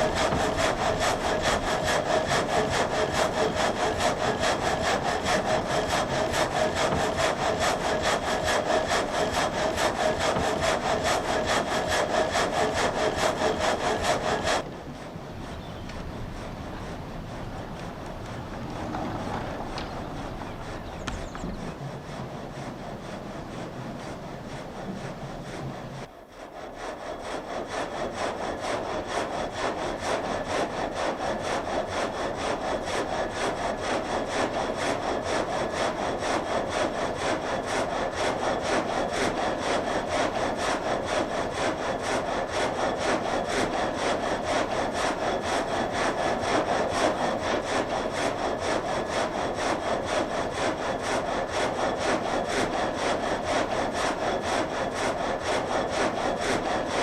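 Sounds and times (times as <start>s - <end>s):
frame saw cutting log: 0.0s - 57.0s.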